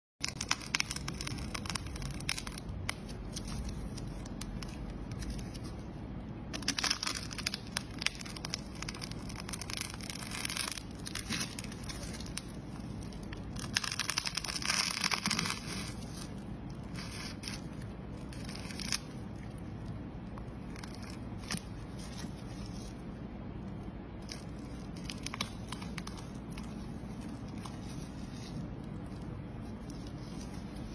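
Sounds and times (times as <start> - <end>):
plastic crackling and tearing: 0.2 - 30.9.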